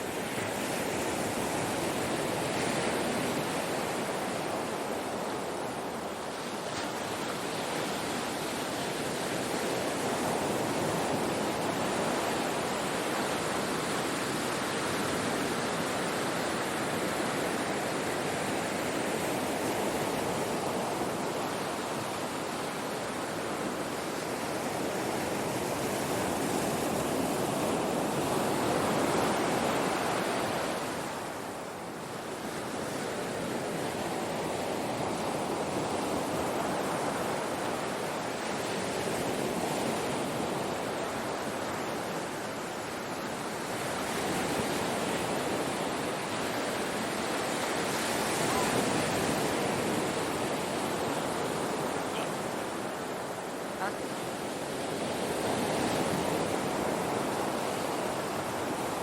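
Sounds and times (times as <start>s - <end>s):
ocean surf washing on shore: 0.0s - 59.0s.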